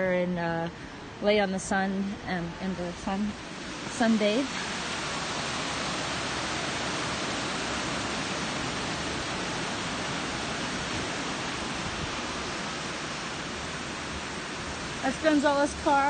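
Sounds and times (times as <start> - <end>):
river rushing over weir: 2.0 - 16.0.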